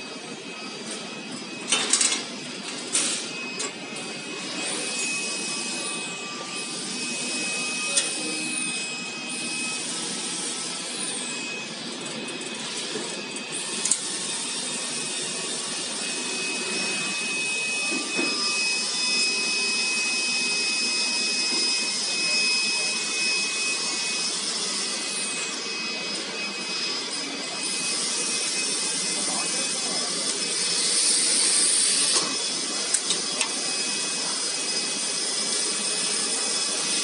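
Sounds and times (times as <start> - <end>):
machinery whirring with high whine: 0.0 - 37.0.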